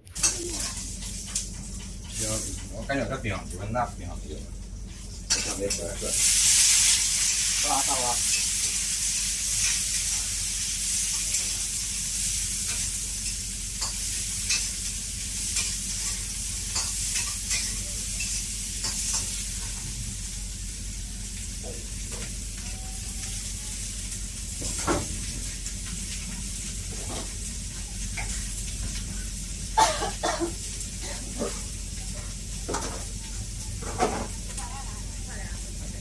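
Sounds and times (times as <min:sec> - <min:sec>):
food sizzling in a wok: 0:00.0 - 0:02.8, 0:04.8 - 0:36.0.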